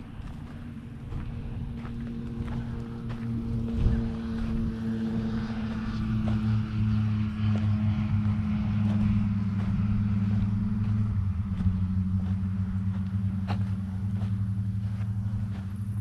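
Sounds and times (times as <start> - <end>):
motor engine humming: 0.0 - 16.0.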